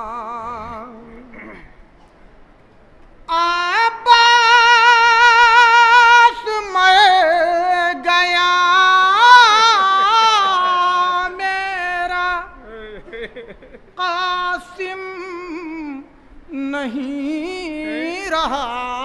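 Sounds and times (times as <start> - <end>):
person singing unaccompanied: 0.0 - 1.7, 3.3 - 19.0.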